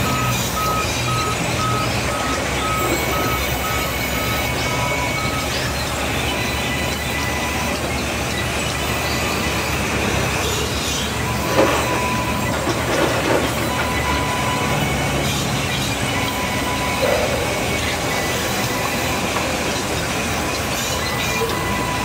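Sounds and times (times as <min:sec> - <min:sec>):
band saw humming and whining: 0:00.0 - 0:22.0.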